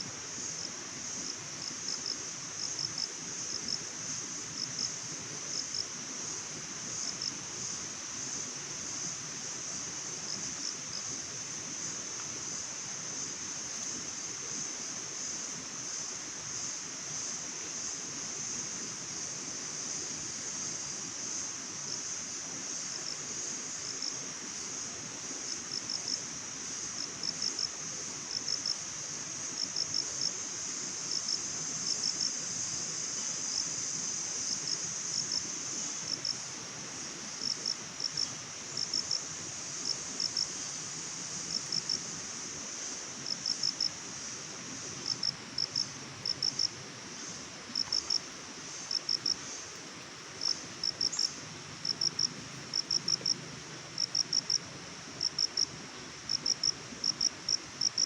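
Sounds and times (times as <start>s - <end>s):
crickets chirping: 0.0s - 58.0s
high insect trill: 0.0s - 58.0s
soft even hiss: 0.0s - 58.0s.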